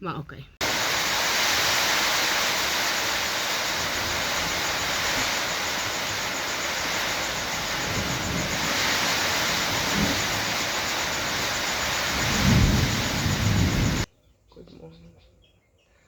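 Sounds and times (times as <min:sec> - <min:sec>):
heavy rain falling: 0:00.6 - 0:14.1.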